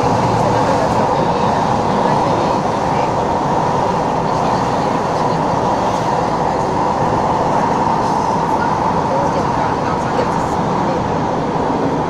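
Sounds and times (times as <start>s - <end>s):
metro train interior rumble: 0.0s - 12.0s.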